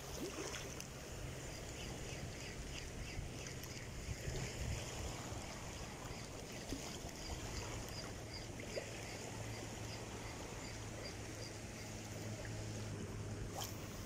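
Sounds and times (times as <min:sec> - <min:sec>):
low steady hum: 0:00.0 - 0:14.0
water noise: 0:00.0 - 0:14.0
wind: 0:00.0 - 0:14.0.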